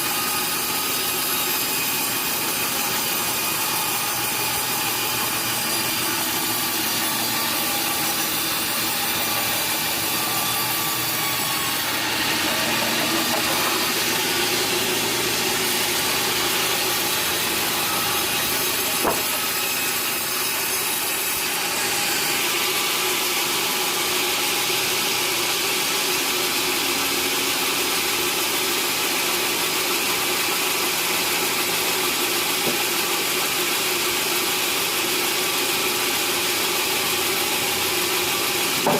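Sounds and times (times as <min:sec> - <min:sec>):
sawmill saw cutting timber: 0:00.0 - 0:38.9.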